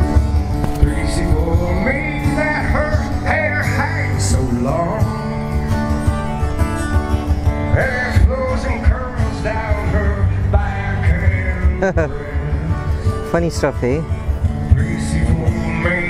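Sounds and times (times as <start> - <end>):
steady bass line: 0.0 - 16.0.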